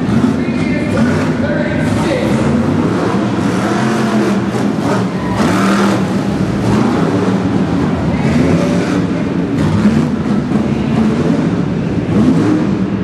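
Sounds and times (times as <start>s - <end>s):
truck engine revving hard: 0.0s - 13.0s.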